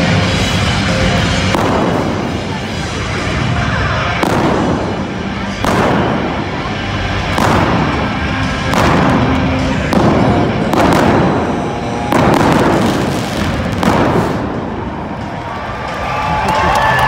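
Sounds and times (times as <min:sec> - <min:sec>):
arena music: 0:00.0 - 0:17.0
flame cannons bursting: 0:00.2 - 0:15.6.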